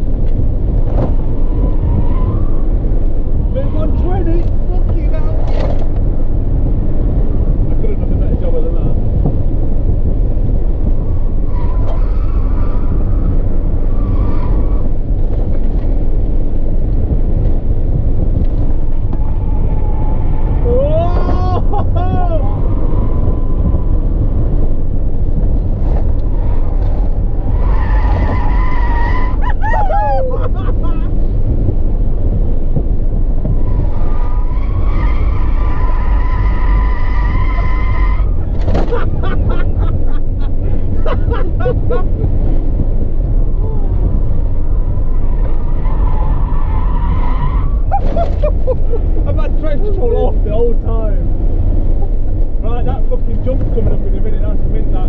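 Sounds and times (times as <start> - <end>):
car driving rumble inside cabin: 0.0 - 55.0.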